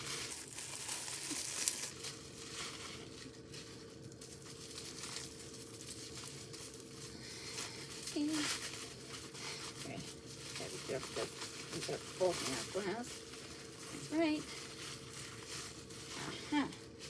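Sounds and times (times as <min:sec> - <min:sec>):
packaging wrap crinkling: 0:00.0 - 0:16.3
faint steady hum: 0:00.0 - 0:17.0.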